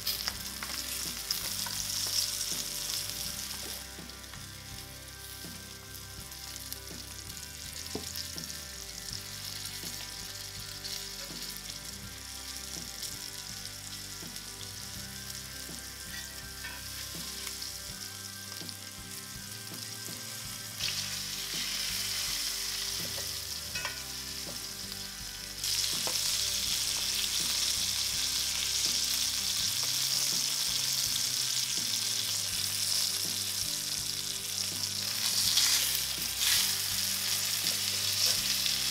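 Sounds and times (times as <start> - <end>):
fish frying in hot oil: 0.0 - 38.9.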